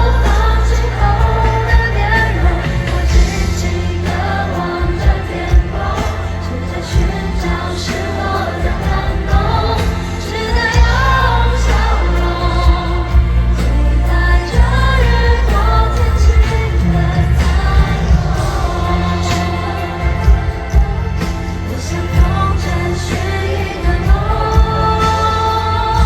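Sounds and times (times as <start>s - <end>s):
heavy bass line: 0.0s - 26.0s
person singing over band: 0.0s - 26.0s.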